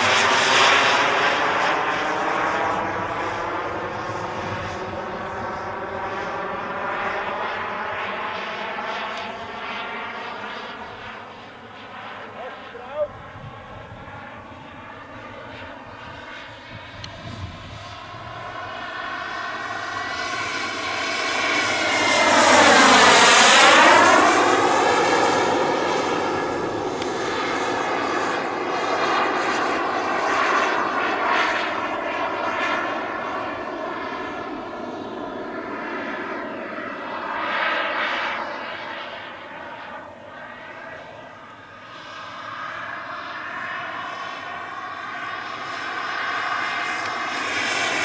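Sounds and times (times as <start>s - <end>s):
model jet engine flying past: 0.0s - 48.0s.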